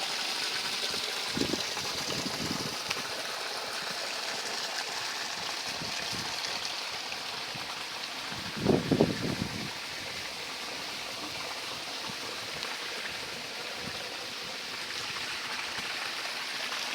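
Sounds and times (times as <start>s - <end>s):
stream flowing: 0.0s - 16.9s.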